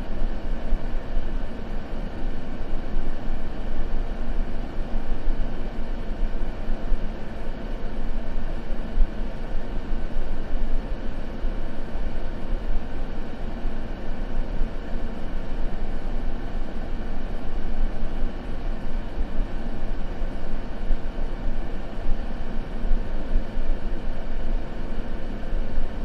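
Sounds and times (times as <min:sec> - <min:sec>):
steady synthetic noise hiss: 0:00.0 - 0:26.0.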